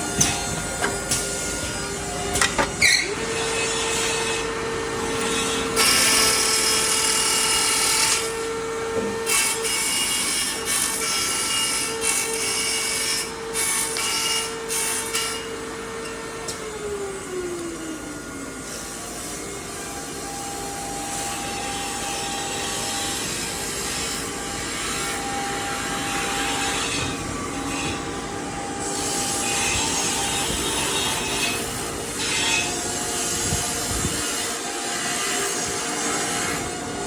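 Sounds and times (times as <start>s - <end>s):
machine whine: 0.0s - 37.0s.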